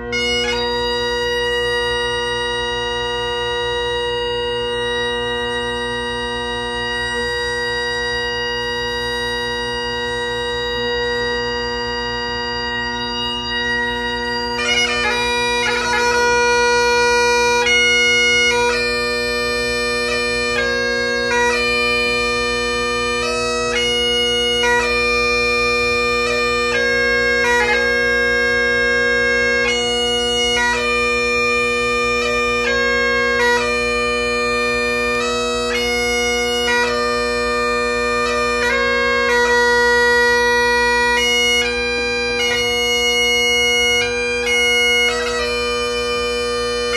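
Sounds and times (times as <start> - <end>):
bagpipe playing: 0.0 - 46.9.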